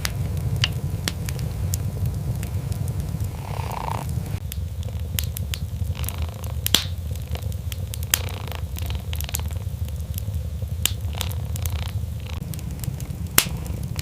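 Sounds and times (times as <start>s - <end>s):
low rumble: 0.0s - 14.0s
wood fire crackling and popping: 0.0s - 14.0s.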